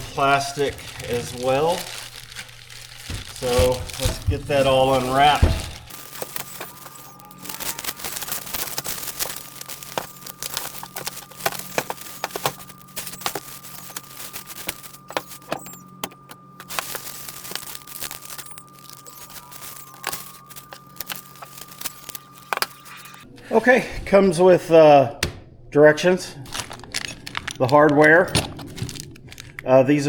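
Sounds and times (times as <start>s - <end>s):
paper and plastic wrap crinkling: 0.0s - 23.3s, 26.4s - 30.0s.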